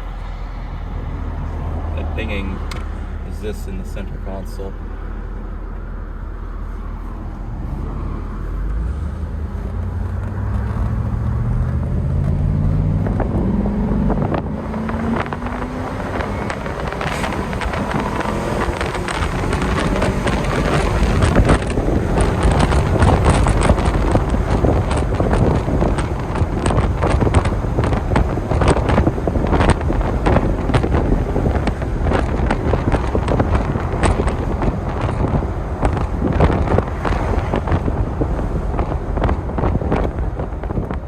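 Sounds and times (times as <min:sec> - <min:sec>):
car engine accelerating: 0:00.0 - 0:41.0
wind and road noise: 0:00.0 - 0:41.0
wind buffeting microphone: 0:05.0 - 0:41.0.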